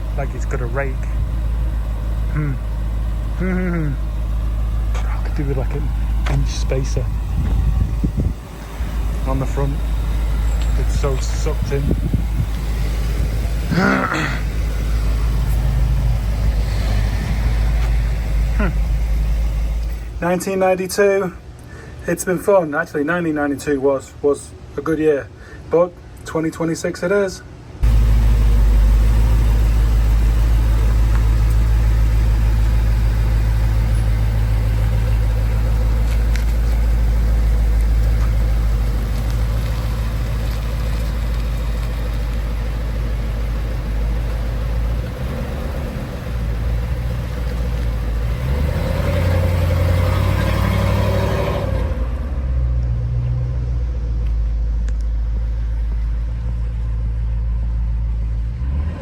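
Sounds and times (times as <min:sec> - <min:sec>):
truck engine and road drone: 0:00.0 - 0:59.0.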